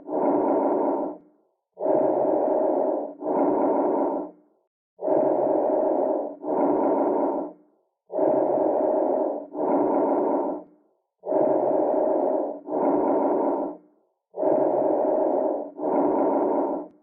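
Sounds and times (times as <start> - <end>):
breath sounds through stethoscope: 0.0 - 17.0.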